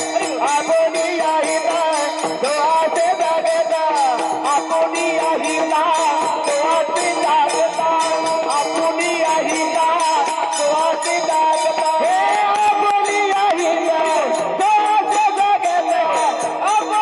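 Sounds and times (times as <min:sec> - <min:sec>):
hand cymbals clashing: 0:00.0 - 0:17.0
voices singing a chant: 0:00.0 - 0:17.0.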